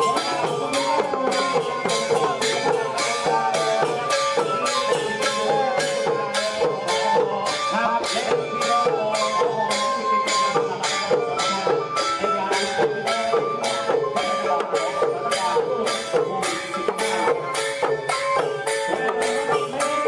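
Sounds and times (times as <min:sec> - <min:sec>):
hand cymbals striking: 0:00.0 - 0:20.0.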